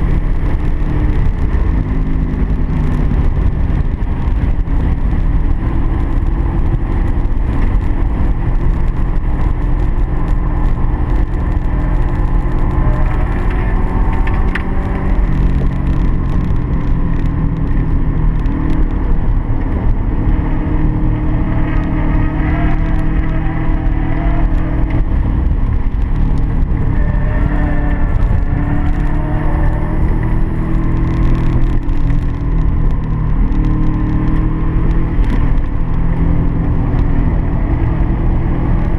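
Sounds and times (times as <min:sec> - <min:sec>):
race car engine revving: 0:00.0 - 0:38.9
road and wind noise: 0:00.0 - 0:38.9.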